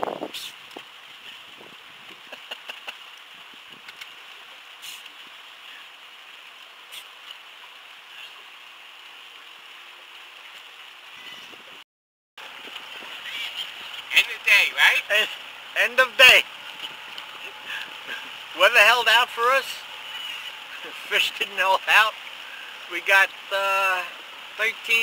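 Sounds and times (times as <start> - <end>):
water lapping against boat hull: 0.1 - 8.7, 12.4 - 24.5.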